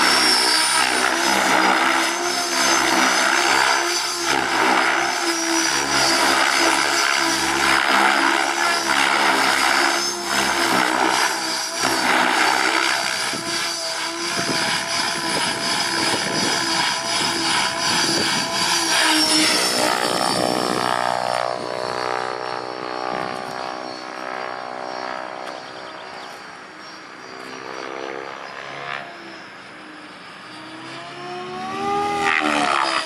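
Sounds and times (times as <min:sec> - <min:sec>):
rotor blade chop: 0:00.0 - 0:26.5, 0:27.3 - 0:33.0
helicopter motor whine: 0:00.0 - 0:33.0.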